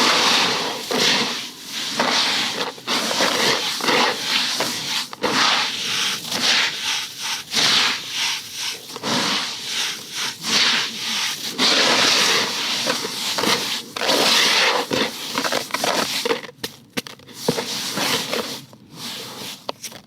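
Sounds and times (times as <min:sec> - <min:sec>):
scratchy rubbing and crinkling: 0:00.0 - 0:20.0.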